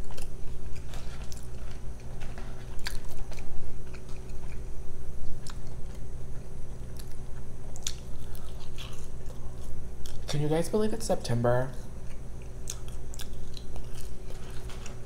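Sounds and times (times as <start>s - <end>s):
chewing fries: 0.0s - 10.4s, 11.8s - 15.0s
steady low hum: 0.0s - 15.0s.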